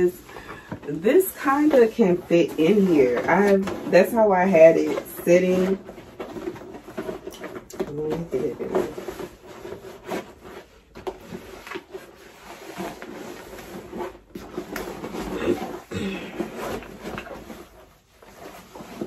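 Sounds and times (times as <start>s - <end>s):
canvas bag rustling: 0.0s - 19.0s.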